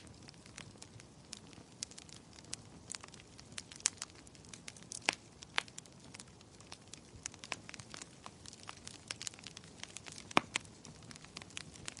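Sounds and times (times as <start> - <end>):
sharp pops and snaps: 0.0 - 12.0
wood fire crackling: 0.0 - 12.0.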